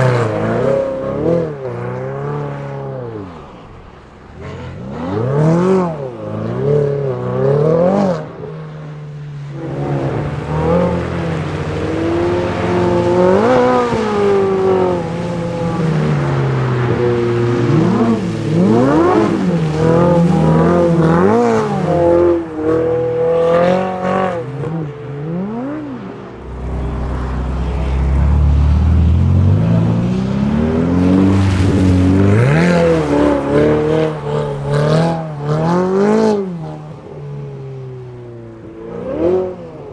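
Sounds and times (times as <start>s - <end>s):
sports car engine revving: 0.0s - 8.8s, 9.4s - 39.9s.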